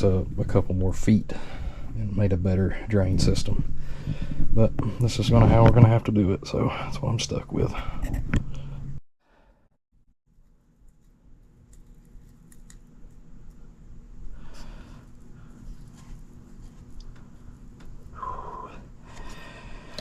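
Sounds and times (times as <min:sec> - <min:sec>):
steady low hum: 0:00.0 - 0:09.5, 0:10.3 - 0:20.0.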